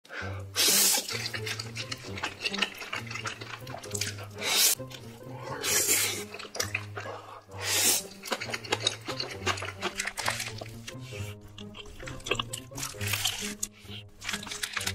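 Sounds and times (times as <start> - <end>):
noodle slurping: 0.4 - 14.9
wet chewing and mouth clicks: 0.6 - 14.9.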